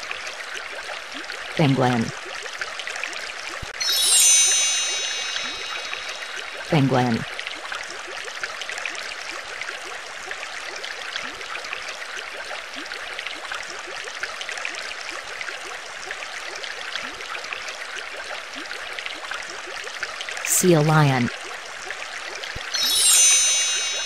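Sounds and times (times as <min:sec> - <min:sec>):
water trickling: 0:00.0 - 0:24.0.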